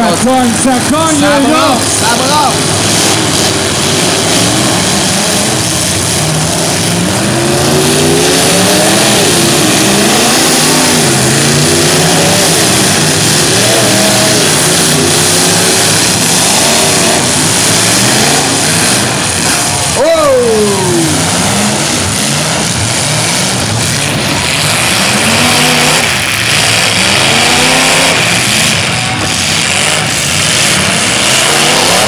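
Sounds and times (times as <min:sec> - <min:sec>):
car engines revving hard: 0:00.0 - 0:32.0.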